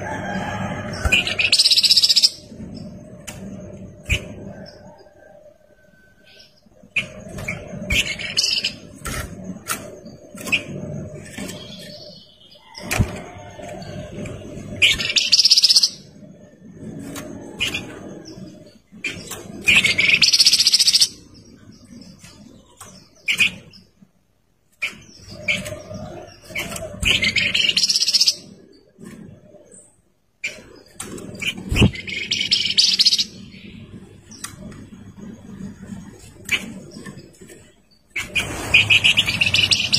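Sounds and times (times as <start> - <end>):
songbird singing: 0.0 - 29.0, 29.7 - 39.9
bird chirps: 0.8 - 16.2, 17.4 - 24.0, 24.7 - 29.0, 29.8 - 39.9.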